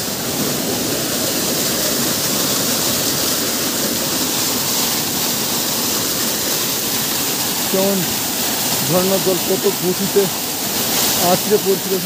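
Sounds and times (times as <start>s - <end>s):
waterfall rushing over stone: 0.0s - 12.0s.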